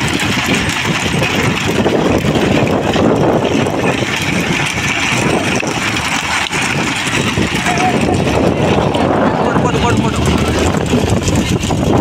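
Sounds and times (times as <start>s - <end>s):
vehicle engine running: 0.0s - 12.0s
wind rush on microphone: 0.0s - 12.0s.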